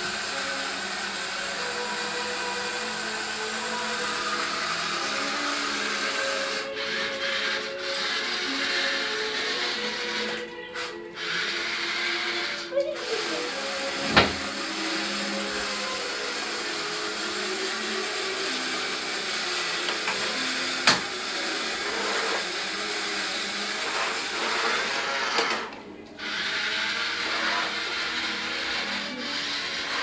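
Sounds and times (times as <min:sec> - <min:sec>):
toy truck motor whirring: 0:00.0 - 0:30.0.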